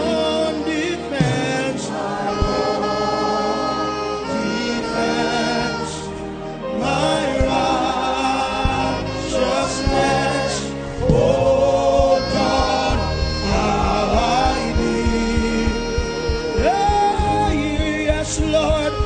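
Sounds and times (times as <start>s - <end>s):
gospel singing with backing music: 0.0s - 19.0s.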